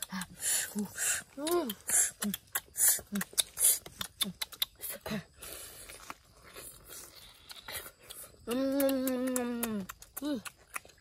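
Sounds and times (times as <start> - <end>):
person humming mmm: 0.0 - 5.7, 6.9 - 10.8
crunchy chewing: 0.0 - 11.0.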